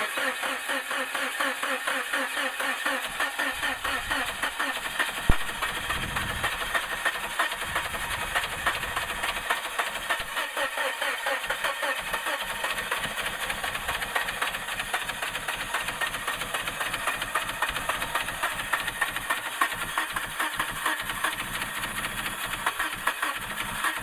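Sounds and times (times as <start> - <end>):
car engine cranking on starter: 0.0 - 24.0.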